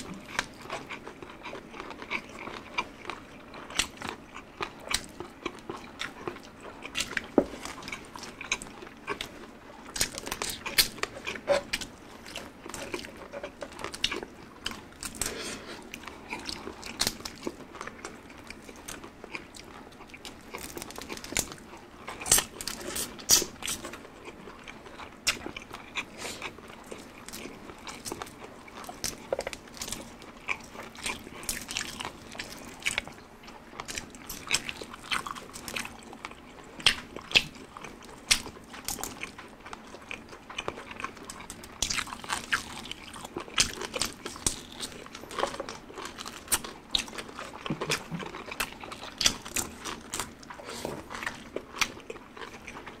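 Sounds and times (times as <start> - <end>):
crunching and chewing crispy food: 0.0 - 53.0.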